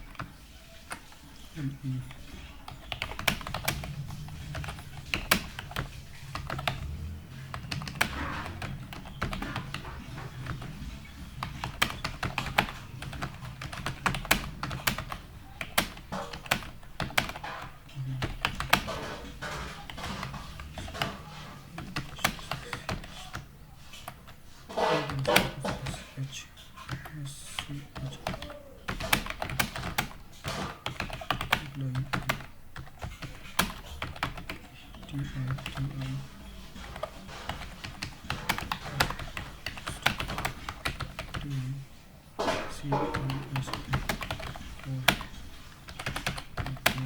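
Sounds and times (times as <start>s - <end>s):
keyboard typing clicks: 2.0s - 26.0s, 26.8s - 36.2s, 36.8s - 41.5s, 42.4s - 47.0s.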